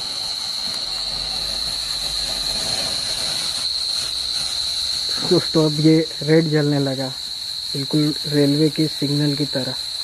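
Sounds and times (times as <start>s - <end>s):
crickets chirping: 0.0s - 10.0s
firework fountain hissing: 0.0s - 10.0s.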